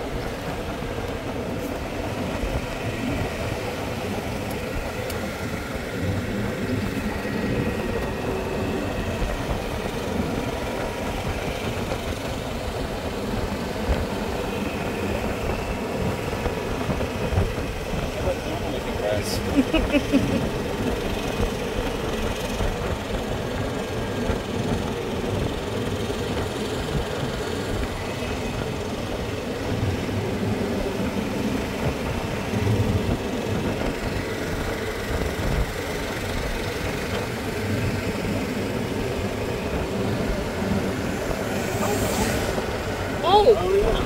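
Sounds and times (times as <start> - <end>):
golf cart tyres rumbling: 0.0 - 44.0
wind noise: 0.0 - 44.0.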